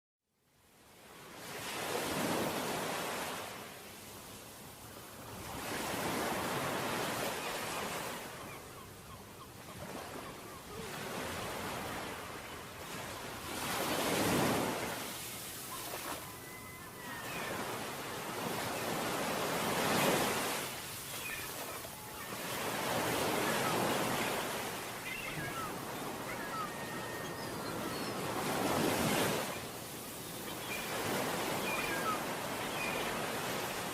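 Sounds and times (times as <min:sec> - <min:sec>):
wind: 0:00.3 - 0:33.9
surf on a beach: 0:00.7 - 0:33.9.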